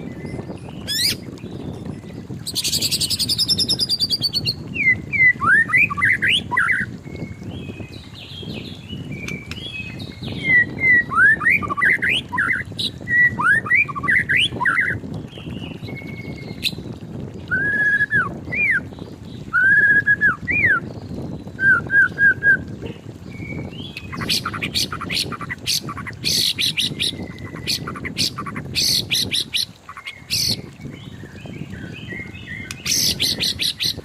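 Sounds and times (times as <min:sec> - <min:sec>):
bird singing whistled notes: 0:00.0 - 0:16.8, 0:17.5 - 0:34.0.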